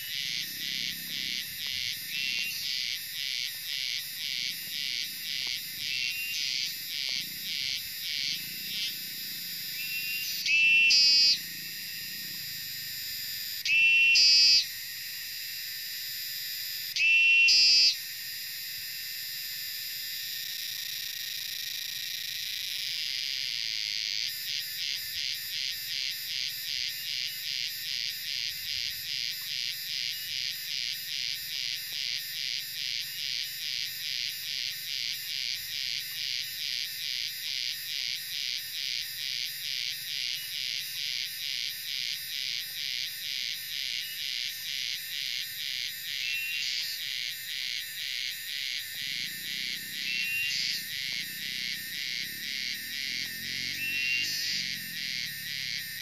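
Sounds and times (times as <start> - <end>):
cicadas droning: 0.0 - 56.0
loud high cicada call: 0.0 - 56.0.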